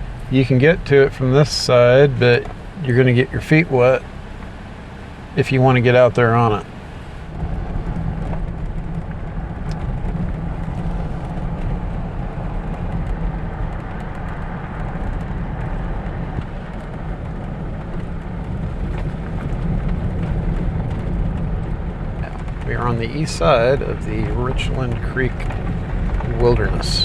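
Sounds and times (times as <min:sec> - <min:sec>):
vehicle engine and tyre drone: 0:00.0 - 0:27.0.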